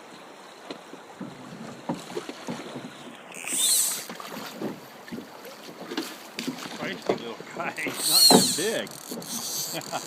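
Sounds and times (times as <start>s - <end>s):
river water flowing: 0.0s - 10.0s
light splashes: 0.6s - 10.0s.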